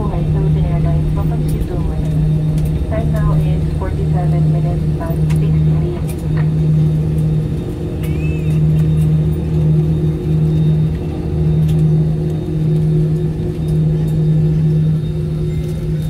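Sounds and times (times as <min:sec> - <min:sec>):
aircraft cabin engine drone: 0:00.0 - 0:16.0
pulsing hum: 0:00.0 - 0:16.0.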